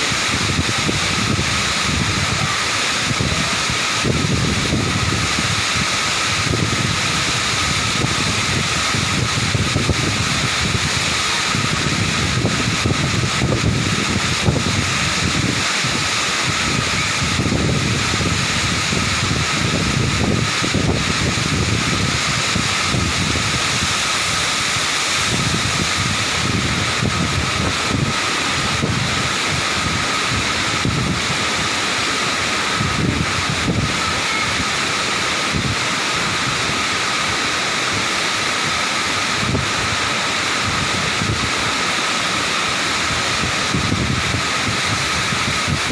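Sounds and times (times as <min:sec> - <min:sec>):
waterfall rushing: 0:00.0 - 0:45.9
wind gusting on microphone: 0:00.0 - 0:45.9.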